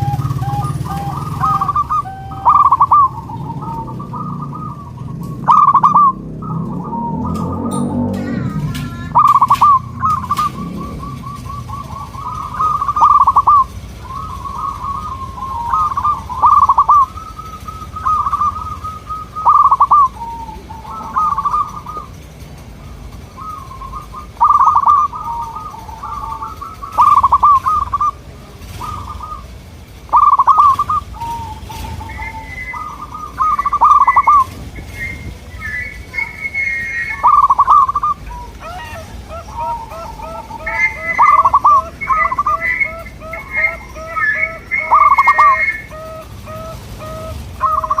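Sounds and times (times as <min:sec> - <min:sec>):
doves cooing: 0:00.0 - 0:48.0
higher-pitched bird call: 0:00.0 - 0:48.0.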